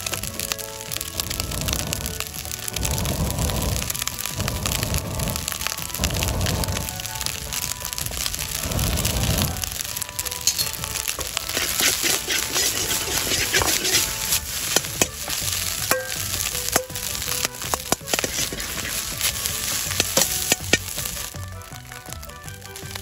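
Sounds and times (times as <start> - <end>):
rice sizzling in a wok: 0.0 - 23.0
stirring clicks and knocks: 0.0 - 23.0.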